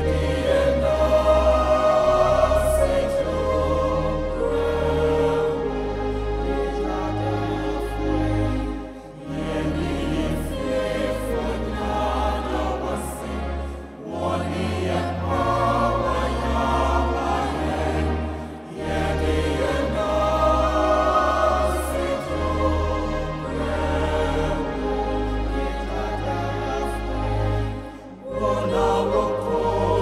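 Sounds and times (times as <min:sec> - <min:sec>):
choir singing gospel in harmony: 0:00.0 - 0:30.0.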